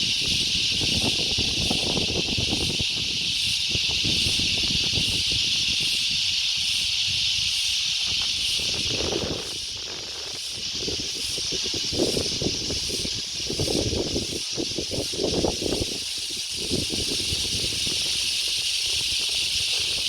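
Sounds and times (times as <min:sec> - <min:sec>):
high-pitched insect chorus: 0:00.0 - 0:20.0
wind buffeting microphone: 0:00.0 - 0:20.0.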